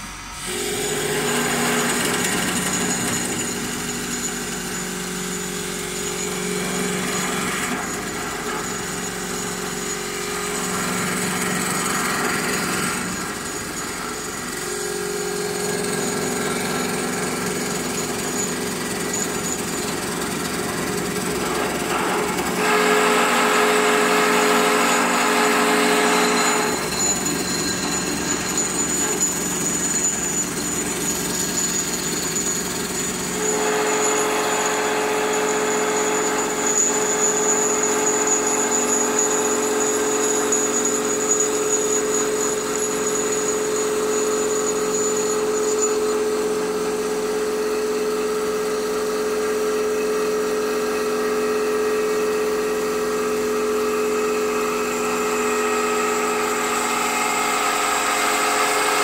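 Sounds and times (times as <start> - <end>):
wood-turning lathe whine: 0.0 - 59.0.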